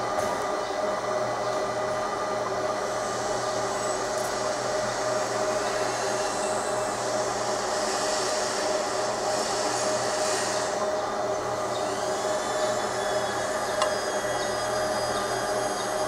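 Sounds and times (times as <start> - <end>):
laser marking machine humming: 0.0 - 16.0.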